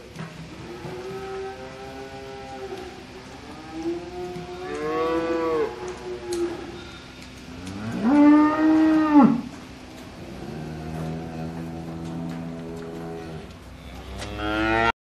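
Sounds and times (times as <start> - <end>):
cattle mooing: 0.6 - 9.6, 10.3 - 14.9.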